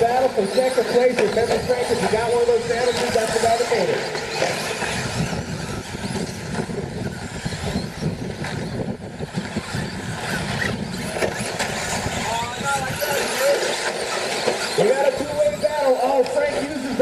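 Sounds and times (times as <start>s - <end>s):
rc truck motor whine: 0.0s - 17.0s.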